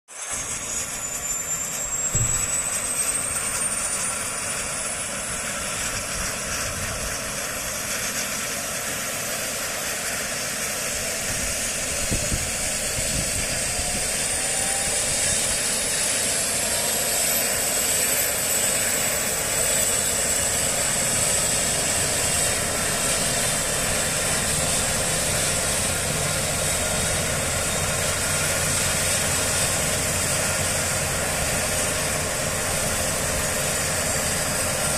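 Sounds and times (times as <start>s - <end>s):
helicopter engine and rotor noise: 0.1s - 34.9s
helicopter turbine whine rising: 0.1s - 34.9s.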